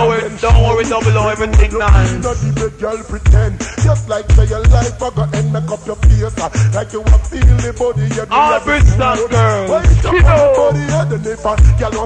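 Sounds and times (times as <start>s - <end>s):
deep bassline: 0.0s - 12.0s.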